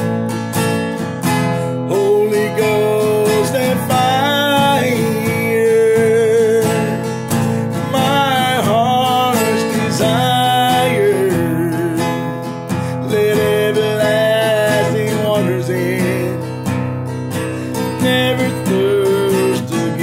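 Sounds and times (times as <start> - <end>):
strummed acoustic guitar: 0.0 - 20.0
man singing: 1.8 - 20.0.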